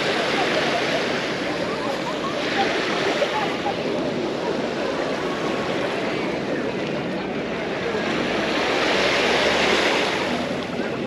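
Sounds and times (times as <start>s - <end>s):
sea waves washing up beach: 0.0s - 11.0s.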